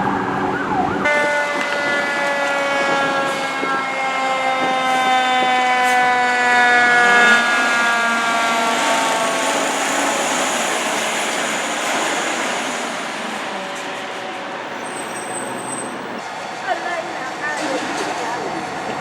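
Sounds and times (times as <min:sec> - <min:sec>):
fire truck siren: 0:00.0 - 0:19.0
truck engine and road noise: 0:00.0 - 0:19.0.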